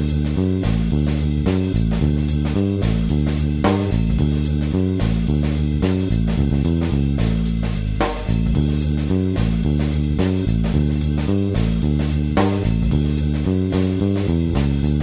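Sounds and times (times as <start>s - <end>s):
band music with bass and guitar: 0.0s - 15.0s.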